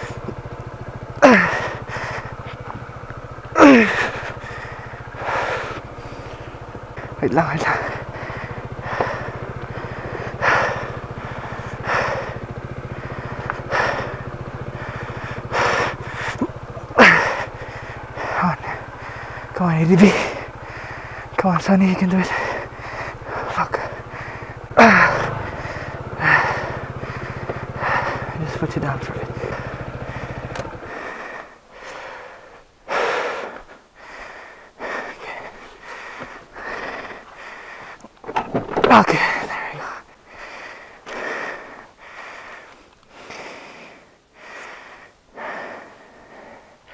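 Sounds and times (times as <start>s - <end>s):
heavy breaths and strained grunts: 0.0s - 46.9s
scooter engine idling: 0.0s - 46.9s.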